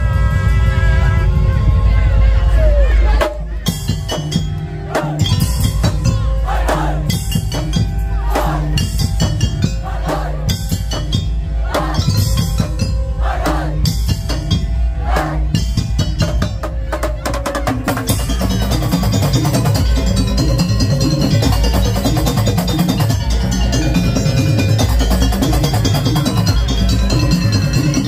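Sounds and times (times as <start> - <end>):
rapid drum and percussion: 0.0 - 28.0
held melodic notes: 3.4 - 28.0.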